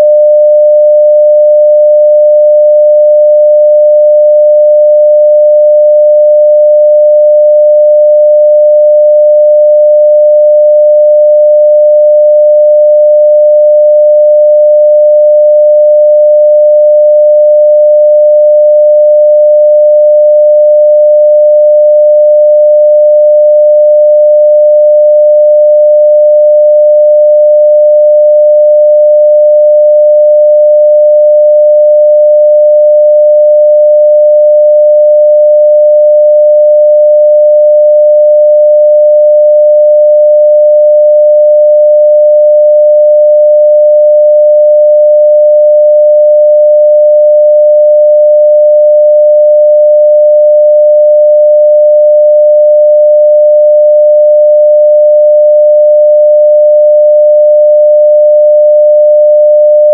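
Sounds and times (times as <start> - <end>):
sine-wave test tone: 0.0 - 59.9.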